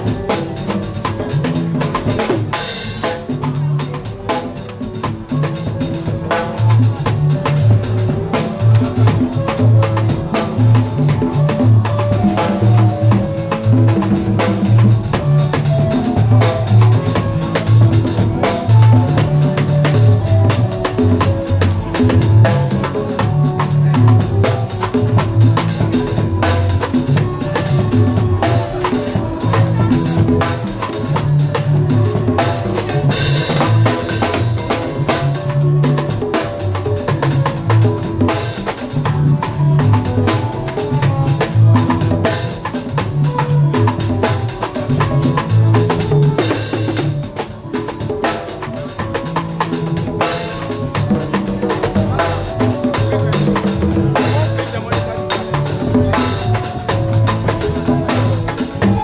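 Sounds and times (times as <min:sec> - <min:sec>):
bass line: 0:00.0 - 0:59.0
drum kit: 0:00.0 - 0:59.0
live band playing: 0:00.0 - 0:59.0.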